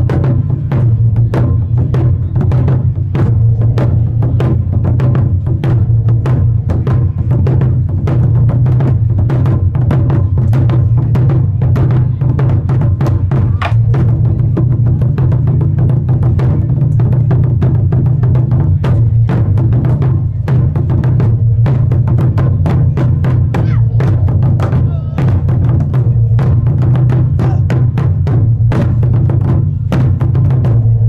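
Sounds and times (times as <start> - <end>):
ensemble beating barrel drums: 0.0 - 31.0.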